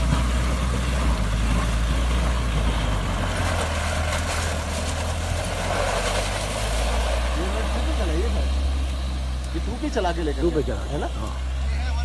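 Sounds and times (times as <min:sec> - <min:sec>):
truck engine running low: 0:00.0 - 0:12.0.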